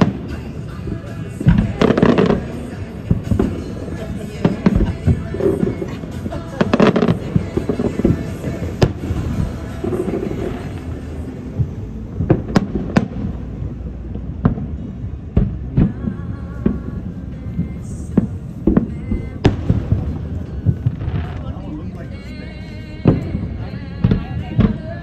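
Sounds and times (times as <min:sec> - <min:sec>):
fireworks bangs and crackles: 0:00.0 - 0:25.0
fireworks low rumble: 0:00.0 - 0:25.0.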